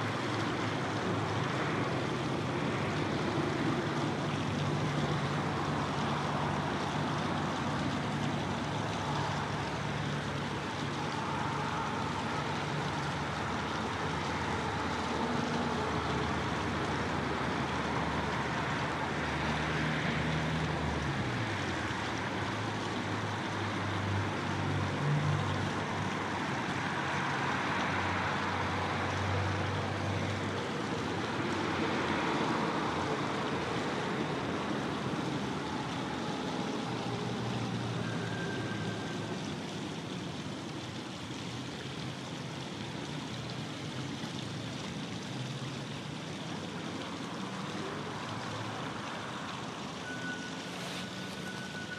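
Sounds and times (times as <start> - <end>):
passing vehicle engines: 0.0 - 51.9
road traffic rush: 0.0 - 51.9.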